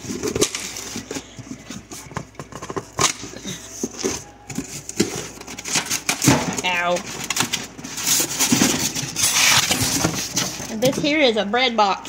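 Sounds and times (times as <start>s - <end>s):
cardboard and plastic rustling: 0.0s - 11.4s.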